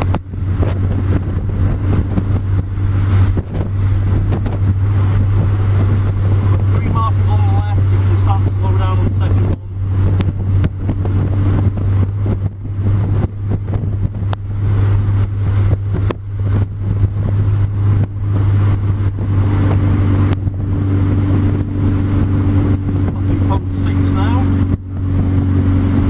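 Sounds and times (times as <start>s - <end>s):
car engine droning inside car: 0.0s - 26.0s.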